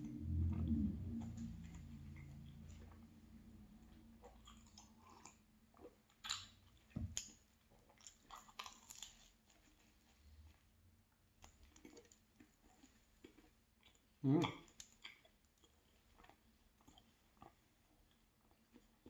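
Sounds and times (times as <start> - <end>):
chewing flaky pastry: 0.0 - 19.0.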